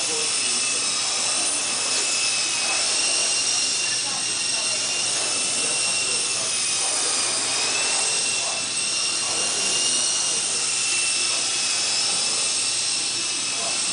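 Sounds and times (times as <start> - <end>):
toy helicopter motor whine: 0.0 - 13.9.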